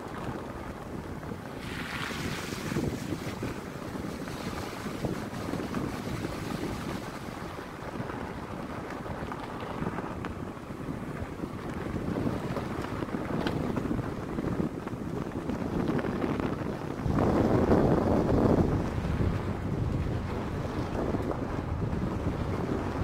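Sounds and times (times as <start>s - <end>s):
tyres rumbling on gravel road: 0.0s - 23.0s
wind noise: 0.0s - 23.0s.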